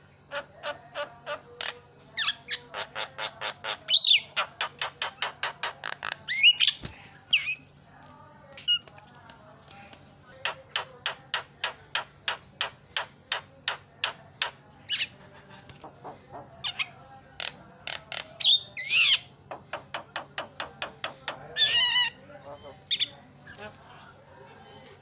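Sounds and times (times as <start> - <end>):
myna calling: 0.3 - 7.7, 10.4 - 23.7.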